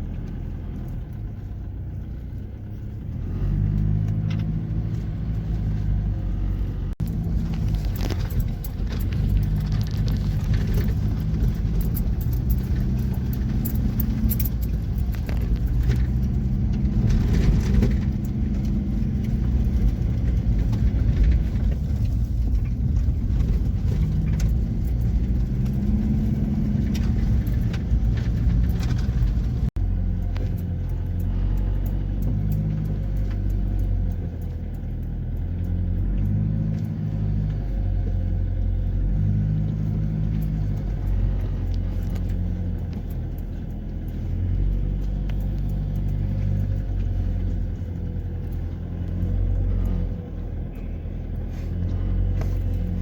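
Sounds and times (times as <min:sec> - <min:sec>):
car rumbling in motion: 0:00.0 - 0:53.0.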